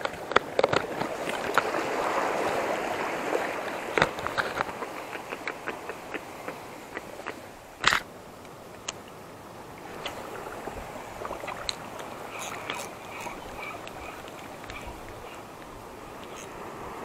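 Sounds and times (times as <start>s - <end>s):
sea waves washing over rocks: 0.0s - 17.0s.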